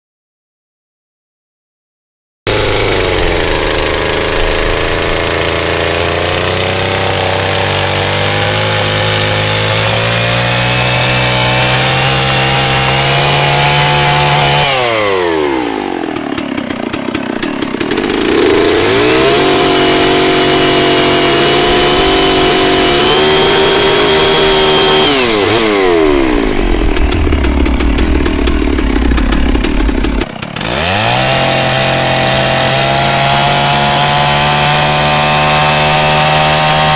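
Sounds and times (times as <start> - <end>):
chainsaw cutting wood: 2.5 - 36.9
chainsaw running: 2.5 - 36.9.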